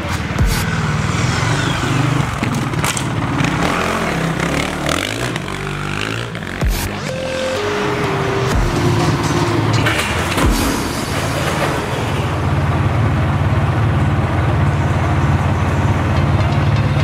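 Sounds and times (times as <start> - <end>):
motorcycle engine idling: 0.0 - 6.9, 8.6 - 17.0.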